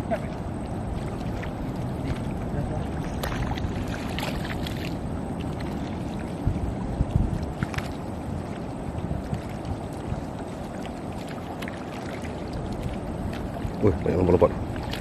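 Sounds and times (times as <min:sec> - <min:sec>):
water sloshing: 0:00.0 - 0:15.0
wind buffeting microphone: 0:00.0 - 0:15.0.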